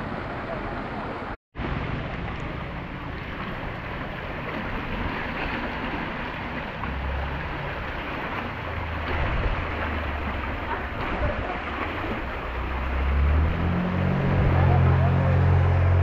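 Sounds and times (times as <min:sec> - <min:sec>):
floodwater rushing: 0:00.0 - 0:16.0
wind rumble on microphone: 0:00.0 - 0:16.0.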